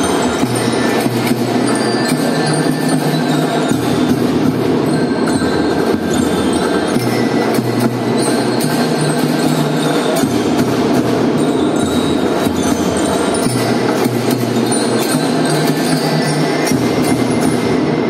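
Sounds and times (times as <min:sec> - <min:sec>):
marching drum band playing: 0:00.0 - 0:18.0
percussion hits: 0:00.0 - 0:18.0.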